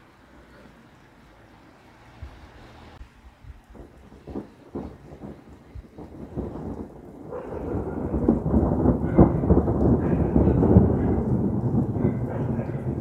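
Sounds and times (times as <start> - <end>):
steady rain: 0.0 - 13.0
thunder rumbling: 2.1 - 13.0.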